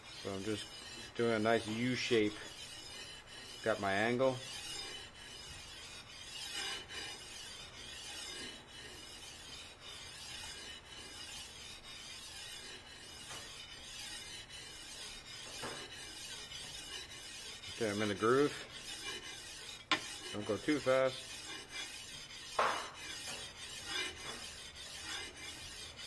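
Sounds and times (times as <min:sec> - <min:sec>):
knife scraping on water stone: 0:00.0 - 0:26.0.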